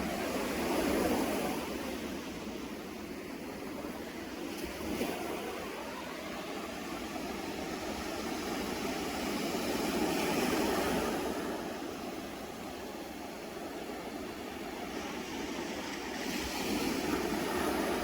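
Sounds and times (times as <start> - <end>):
sea surf washing ashore: 0.0 - 18.0.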